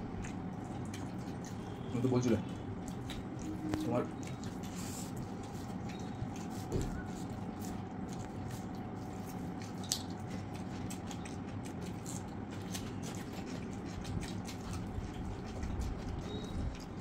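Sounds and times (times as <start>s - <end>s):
mouths chewing: 0.0s - 17.0s
steady background hum: 0.0s - 17.0s.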